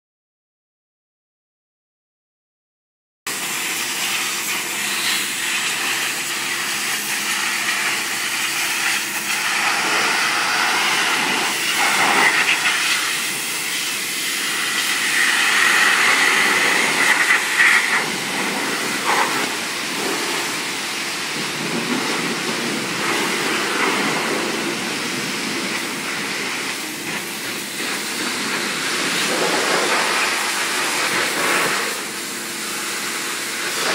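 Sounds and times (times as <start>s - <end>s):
pressure washer spraying water: 3.3s - 33.9s.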